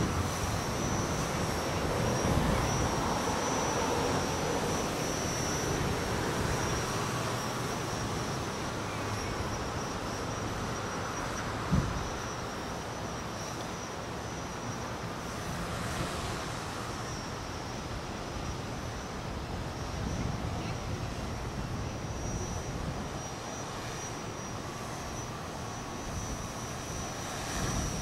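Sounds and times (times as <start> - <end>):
wind noise on microphone: 0.0 - 12.5, 15.4 - 28.0
drone motors and propellers: 0.0 - 28.0.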